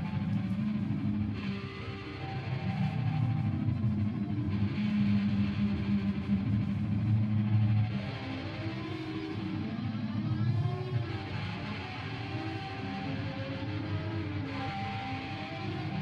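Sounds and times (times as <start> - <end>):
electric guitar noise drone: 0.0 - 16.0.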